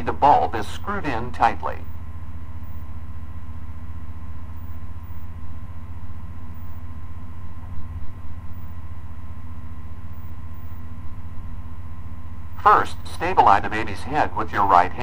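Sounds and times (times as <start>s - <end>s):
faint even whine: 0.0s - 15.0s
steady low hum: 0.0s - 15.0s.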